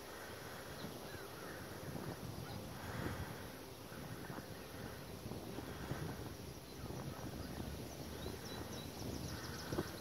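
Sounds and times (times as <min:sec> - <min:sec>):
wind rumble on microphone: 0:00.1 - 0:10.0.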